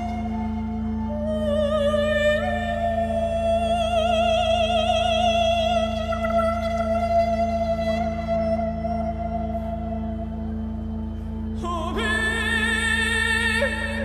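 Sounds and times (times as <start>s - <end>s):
low drone: 0.0s - 14.0s
person singing with vibrato: 0.0s - 14.0s.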